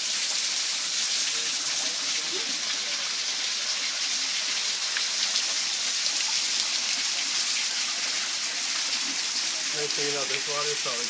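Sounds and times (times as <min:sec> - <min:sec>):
water trickling onto stones: 0:00.0 - 0:11.0.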